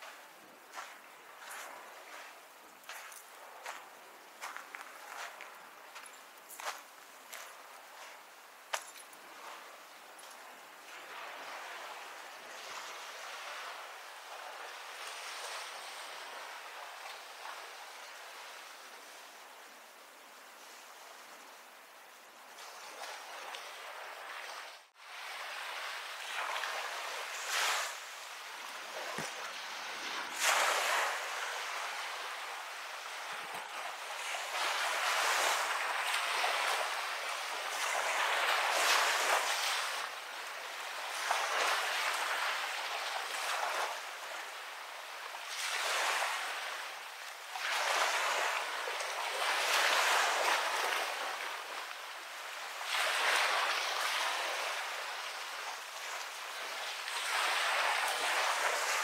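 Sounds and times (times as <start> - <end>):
sea waves washing onto beach: 0.0 - 59.0.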